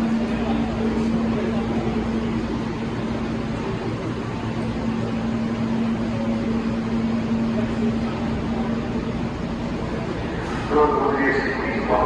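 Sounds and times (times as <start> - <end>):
constant low droning tone: 0.0 - 12.0
subway train air conditioning hum: 0.0 - 12.0.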